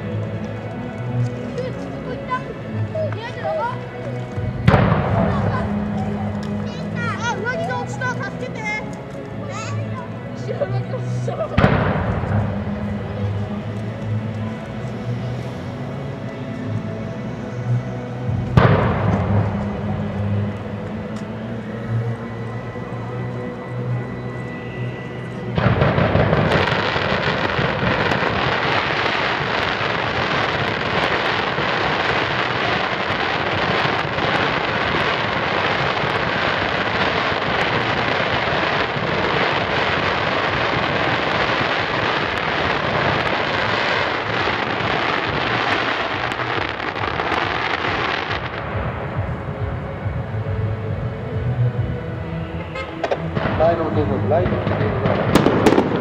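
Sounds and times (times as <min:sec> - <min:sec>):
fireworks crackling and banging: 0:00.0 - 0:56.0.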